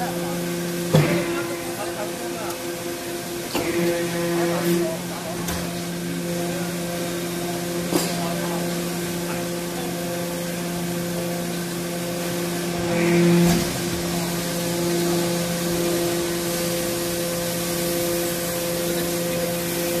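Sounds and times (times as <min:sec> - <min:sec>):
hydraulic power unit humming: 0:00.0 - 0:20.0.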